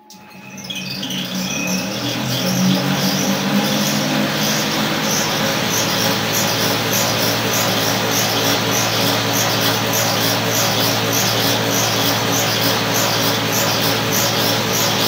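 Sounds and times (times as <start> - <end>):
cotton candy machine whirring: 0.0 - 15.0.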